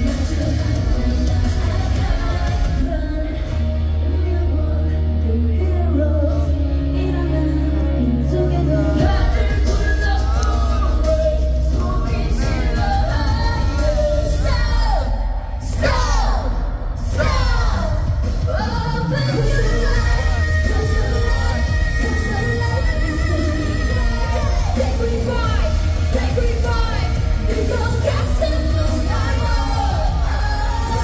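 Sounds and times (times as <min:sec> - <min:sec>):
loud pop concert music: 0:00.0 - 0:31.0
sung vocals: 0:00.0 - 0:31.0.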